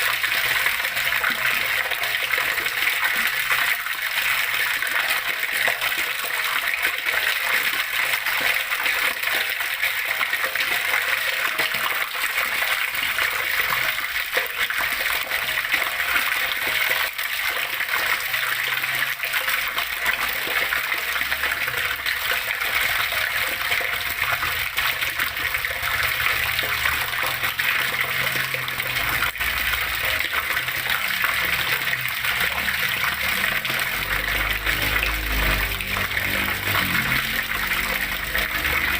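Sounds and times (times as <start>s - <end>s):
flowing water splashing: 0.0s - 38.9s.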